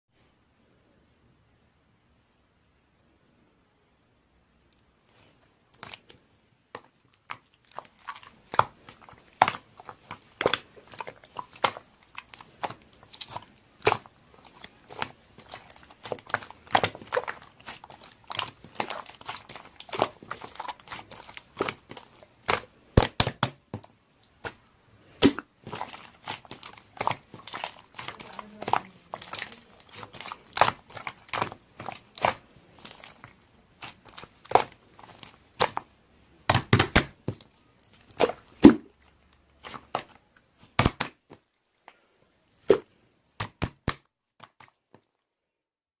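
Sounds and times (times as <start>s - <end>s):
slime squishing with sticky pops: 5.1s - 45.3s.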